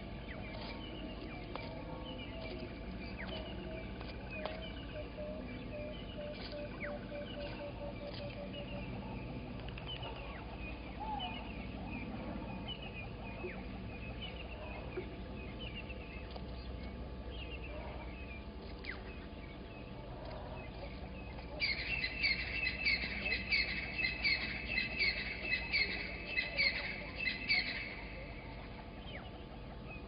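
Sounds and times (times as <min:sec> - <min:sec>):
birds chirping and calling: 0:00.0 - 0:30.0
repeated low bird notes: 0:00.0 - 0:30.0.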